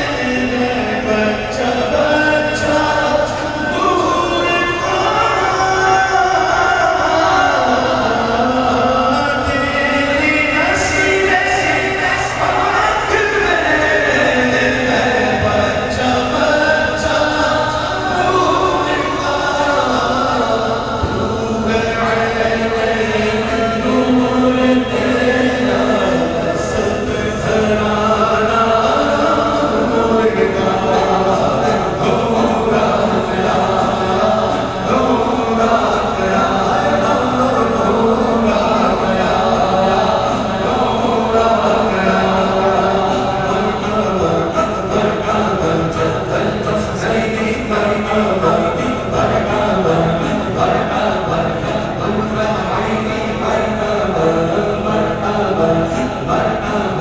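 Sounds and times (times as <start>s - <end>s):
crowd chanting along: 0.0s - 57.0s
man singing into a microphone: 0.0s - 57.0s.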